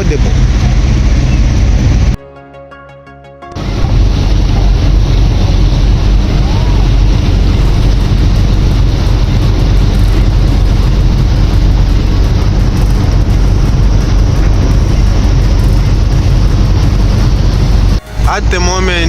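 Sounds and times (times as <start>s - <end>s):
boat engine: 0.0s - 2.2s, 3.5s - 19.0s
water noise: 0.0s - 2.2s, 3.6s - 19.0s
wind buffeting microphone: 0.0s - 2.2s, 3.6s - 18.0s.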